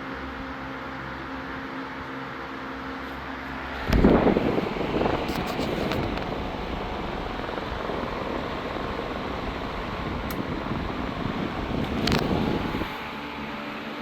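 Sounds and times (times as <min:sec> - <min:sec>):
table fan running: 0:00.0 - 0:14.0.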